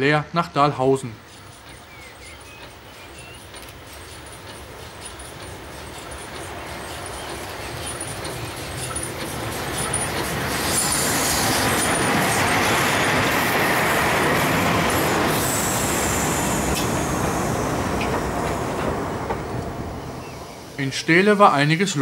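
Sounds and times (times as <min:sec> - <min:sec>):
steam train passing: 0:00.0 - 0:22.0.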